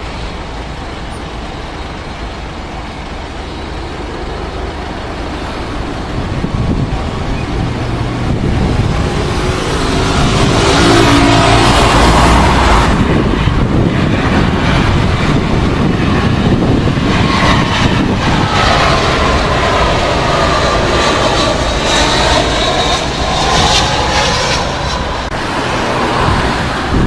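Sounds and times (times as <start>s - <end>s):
jet airliner engine rush: 0.0s - 27.0s
low wind rumble: 0.0s - 27.0s.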